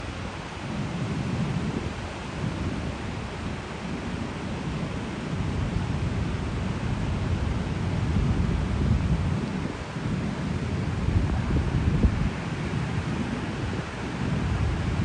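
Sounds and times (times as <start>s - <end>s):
ocean surf: 0.0s - 15.0s
wind rumbling on microphone: 0.0s - 15.0s.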